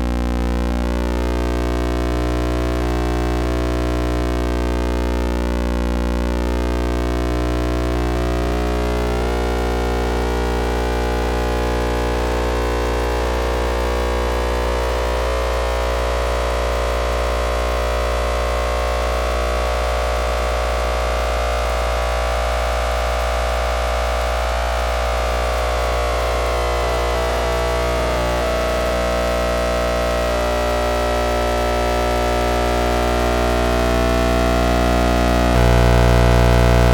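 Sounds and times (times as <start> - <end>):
electronic buzz wavering in pitch: 0.0 - 36.9.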